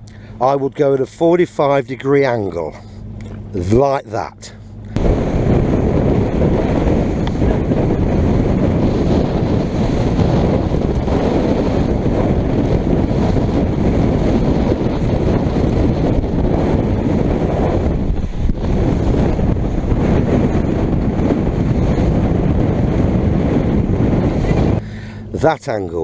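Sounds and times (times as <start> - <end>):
motorboat engine: 0.0 - 26.0
wind blasting microphone: 0.0 - 26.0.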